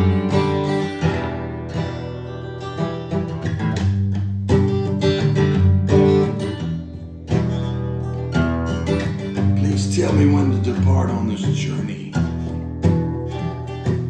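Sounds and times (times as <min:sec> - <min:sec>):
guitar chords ringing: 0:00.0 - 0:14.0.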